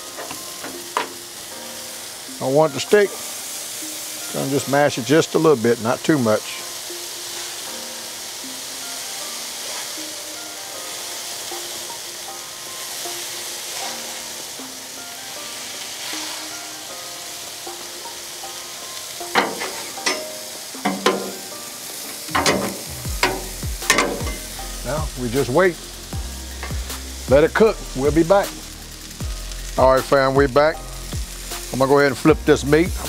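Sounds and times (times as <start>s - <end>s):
patties sizzling on a griddle: 0.0s - 33.0s.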